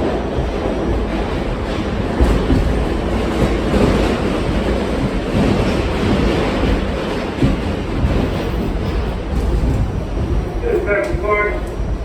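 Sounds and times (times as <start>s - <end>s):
subway car wheels roaring on rails: 0.0s - 12.0s.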